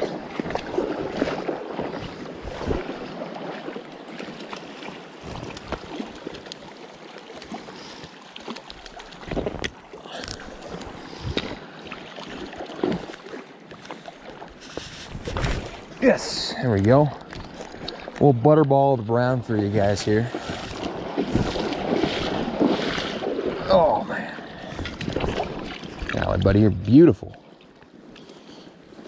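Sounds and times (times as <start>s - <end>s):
short knocks and splashes: 0.0s - 18.8s, 19.4s - 24.0s, 24.7s - 26.9s
shallow river rushing: 0.0s - 27.2s.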